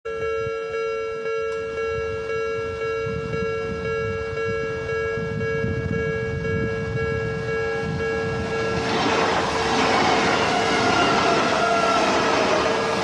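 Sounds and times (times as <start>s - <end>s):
level-crossing warning bell: 0.1s - 13.0s
train rumble: 1.7s - 13.0s.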